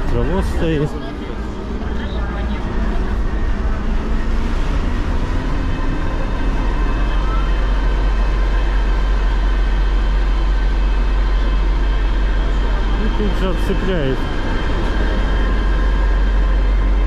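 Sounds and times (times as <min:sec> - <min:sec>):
diesel locomotive idling: 0:00.0 - 0:17.0.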